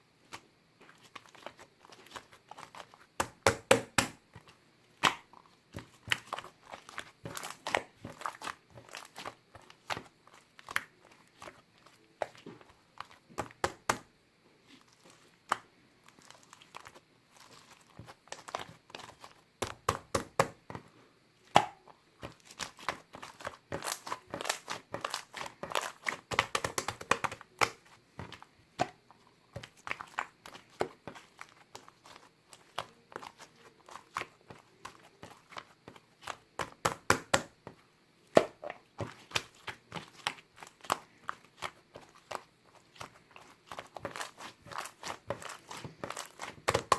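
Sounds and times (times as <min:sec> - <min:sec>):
hands squishing slime: 0:00.2 - 0:46.9.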